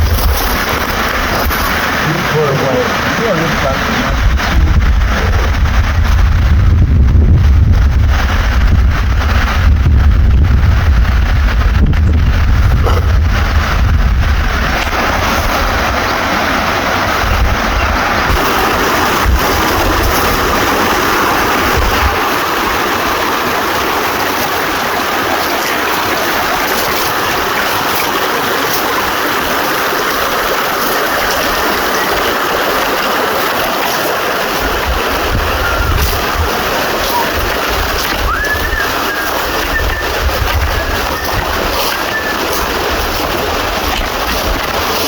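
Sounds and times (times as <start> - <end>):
stream water running: 0.0 - 45.0
wind buffeting microphone: 0.0 - 45.0.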